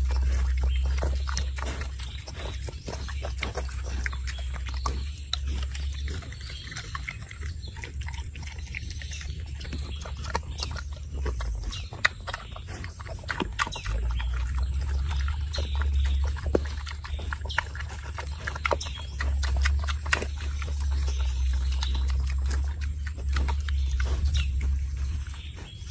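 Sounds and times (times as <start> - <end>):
pigs grunting: 0.0 - 25.9
steady low rumble: 0.0 - 25.9.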